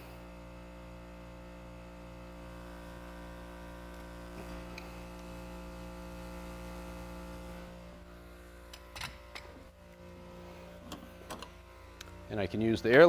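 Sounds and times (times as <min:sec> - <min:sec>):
electrical hum of equipment: 0:00.0 - 0:13.0.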